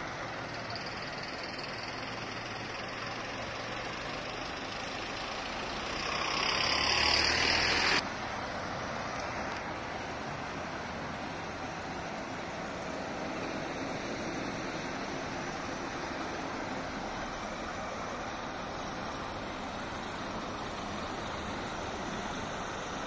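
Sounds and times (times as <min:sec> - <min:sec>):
coach engines idling: 0:00.0 - 0:23.0
passing road traffic: 0:00.0 - 0:23.0.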